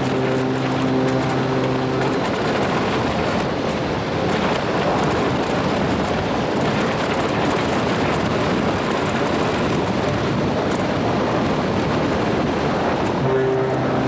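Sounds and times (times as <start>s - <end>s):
ferry running noise: 0.0s - 14.0s
wind: 0.0s - 14.0s.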